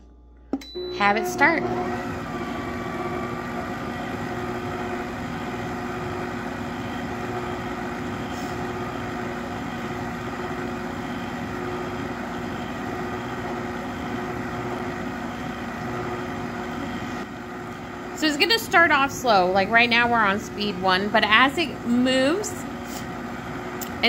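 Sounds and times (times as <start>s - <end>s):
stand mixer motor humming: 0.8s - 24.0s.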